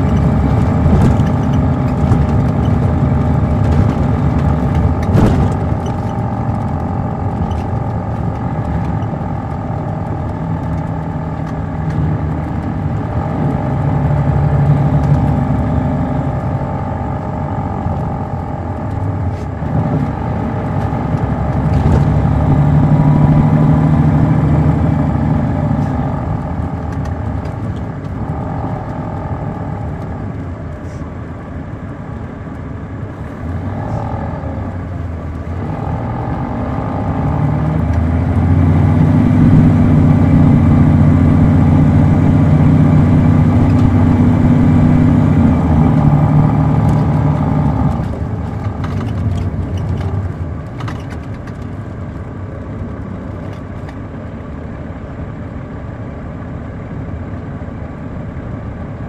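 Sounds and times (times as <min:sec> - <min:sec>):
diesel coach engine running: 0:00.0 - 0:59.0.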